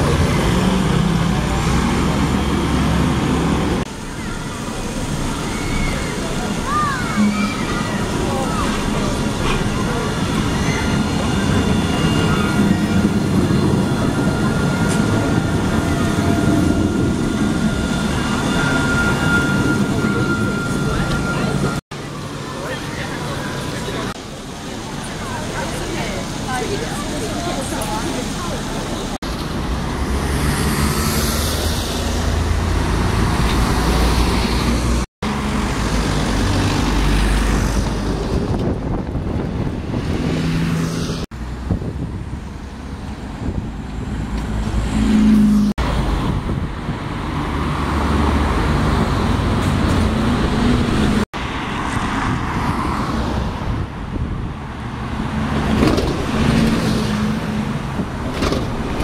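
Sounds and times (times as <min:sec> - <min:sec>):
bus engines running: 0:00.0 - 0:59.0
road noise: 0:00.0 - 0:59.0.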